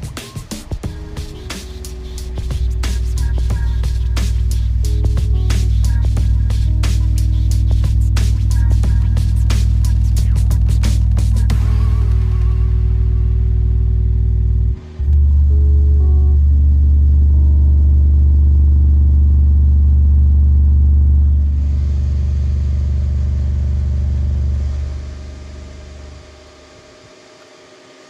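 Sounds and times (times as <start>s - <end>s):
subwoofer deep bass note: 0.9s - 26.4s.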